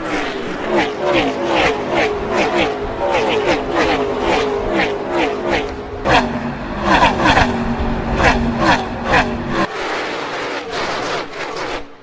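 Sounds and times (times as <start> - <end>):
race car engines passing by: 0.0 - 12.0.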